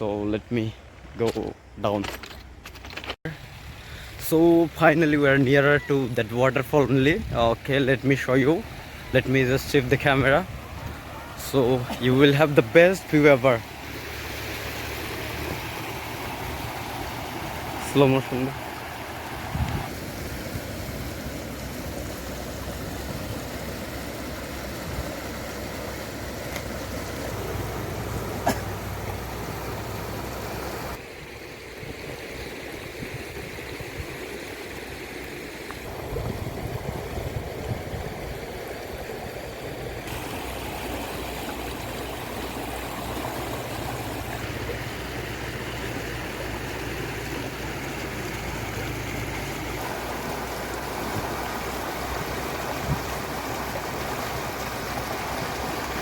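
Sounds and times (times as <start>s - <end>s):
water rushing over waterfall: 4.2s - 31.0s, 34.4s - 56.0s.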